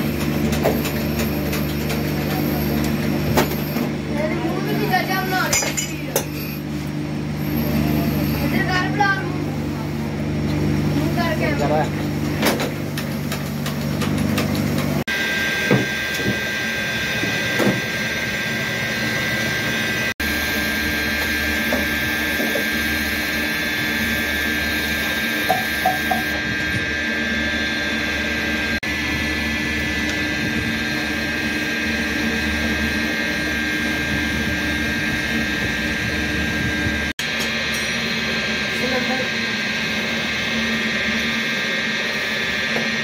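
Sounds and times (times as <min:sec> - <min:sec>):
electric motor whining: 0:00.0 - 0:09.6, 0:12.8 - 0:43.0.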